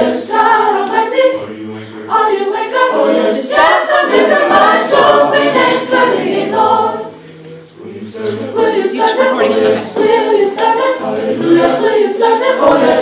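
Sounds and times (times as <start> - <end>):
choir singing a cappella: 0.0 - 13.0.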